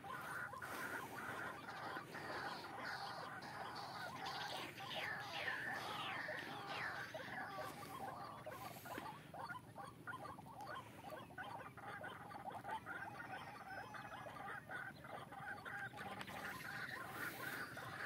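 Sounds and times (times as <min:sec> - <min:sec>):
bird calls from speaker: 0:00.0 - 0:11.6, 0:13.0 - 0:18.0.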